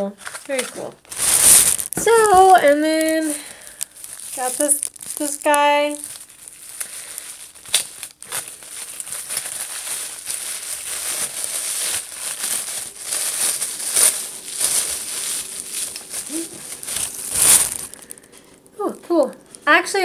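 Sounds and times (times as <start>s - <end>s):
tissue paper crinkling: 0.0s - 18.7s.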